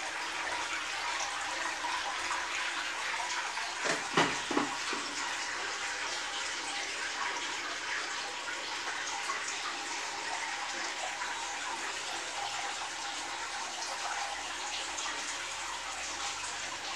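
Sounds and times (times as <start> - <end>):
aquarium water running: 0.0 - 16.9.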